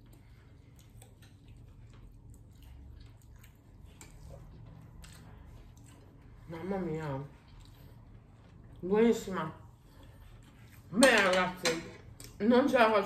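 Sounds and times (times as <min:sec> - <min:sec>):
chewing soft cake: 0:00.0 - 0:10.9.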